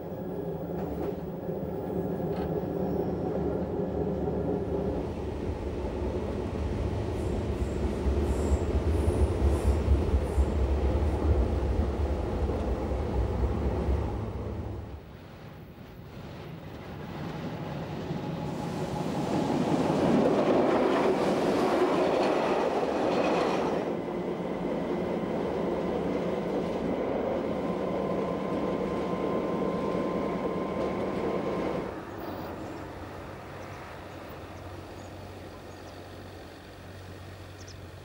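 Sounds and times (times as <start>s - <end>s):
train wheels rushing on rails: 0.0s - 38.0s
train whine: 0.0s - 38.0s.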